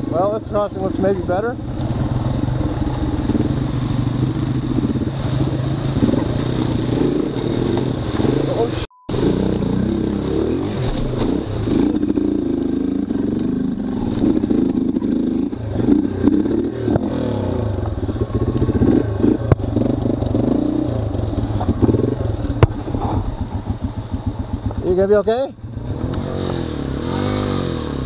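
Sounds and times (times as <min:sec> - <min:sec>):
motorcycle engine: 0:00.0 - 0:28.0.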